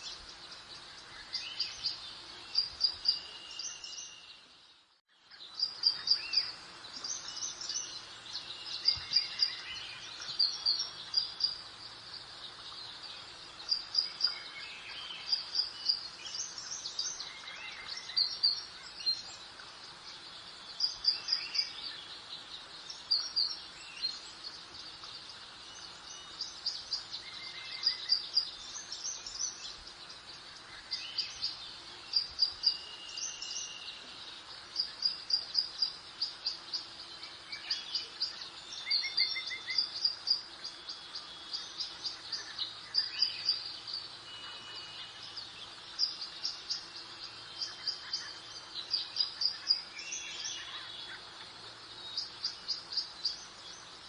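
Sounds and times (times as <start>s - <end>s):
soft hiss of breeze: 0.0s - 54.0s
songbirds chirping and singing: 0.0s - 54.0s.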